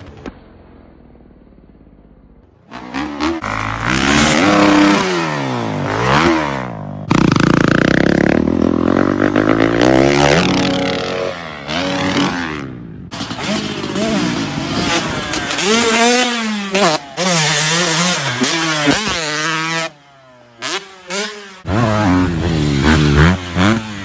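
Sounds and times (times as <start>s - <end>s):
dirt bike engine revving: 2.7s - 24.0s.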